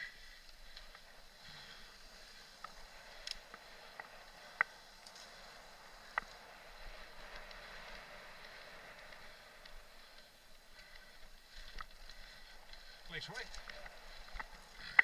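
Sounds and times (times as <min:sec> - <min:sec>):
bike clicks and rattles: 0:00.0 - 0:15.0
tyre and wind hiss: 0:00.0 - 0:15.0.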